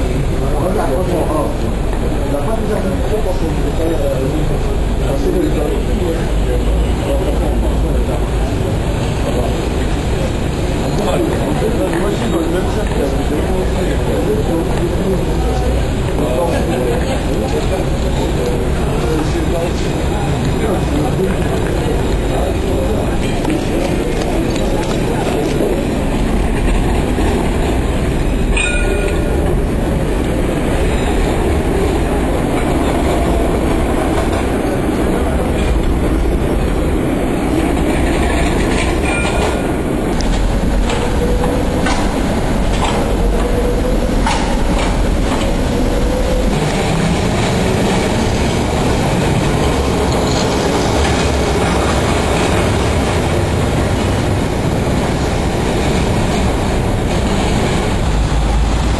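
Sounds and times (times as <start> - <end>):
rail car rumbling on track: 0.0 - 58.9.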